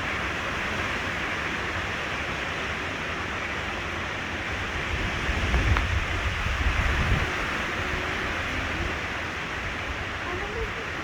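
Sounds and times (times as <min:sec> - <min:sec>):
heavy rain and wind hissing: 0:00.0 - 0:11.0
low rumbling wind gusts: 0:00.0 - 0:11.0.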